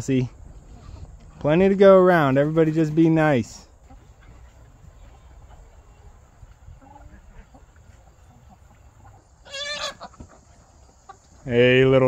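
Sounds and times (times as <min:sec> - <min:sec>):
chickens clucking softly: 0:00.2 - 0:11.9.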